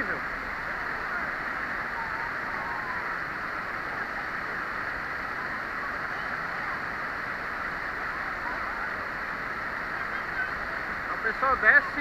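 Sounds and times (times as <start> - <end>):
river rushing down waterfall: 0.0 - 12.0
white water splashing over rocks: 0.0 - 12.0.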